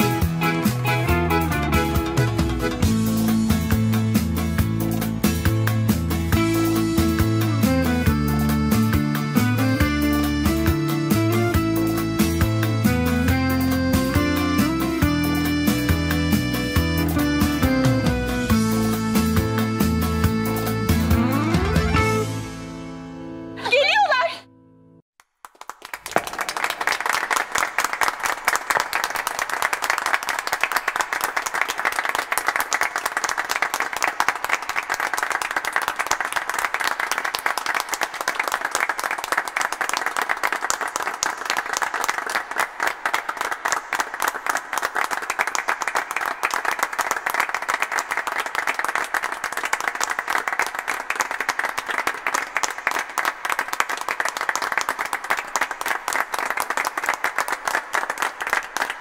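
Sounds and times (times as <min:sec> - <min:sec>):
crowd applauding: 0:00.0 - 0:22.3, 0:25.2 - 0:59.0.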